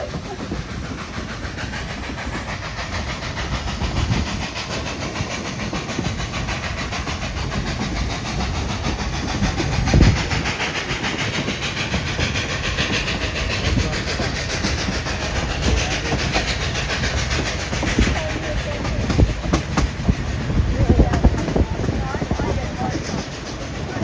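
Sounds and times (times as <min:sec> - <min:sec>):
steam hiss: 0:00.0 - 0:24.0
train wheels clattering on rails: 0:00.0 - 0:24.0.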